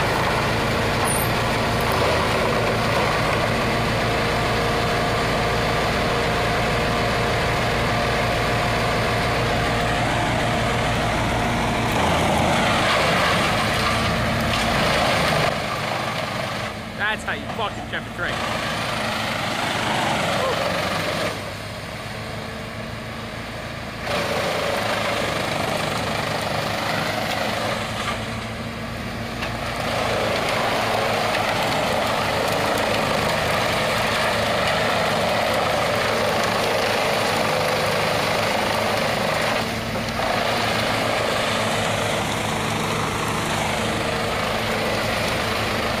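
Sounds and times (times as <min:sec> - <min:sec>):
diesel engine drone: 0:00.0 - 0:46.0
wood chipper grinding wood: 0:00.0 - 0:46.0.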